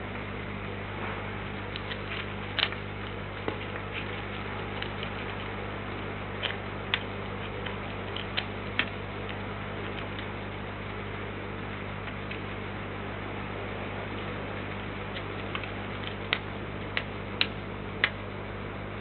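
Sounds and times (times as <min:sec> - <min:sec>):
electrical hum and hiss: 0:00.0 - 0:19.0.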